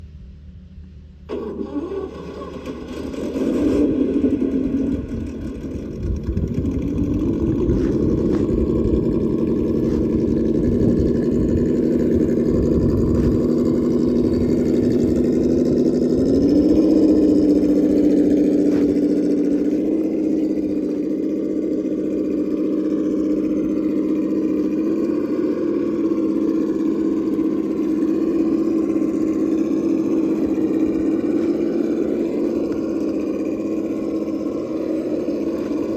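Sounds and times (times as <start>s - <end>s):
electric motor and gears whining: 0.9s - 35.9s
tyres rumbling on dirt: 1.3s - 35.9s.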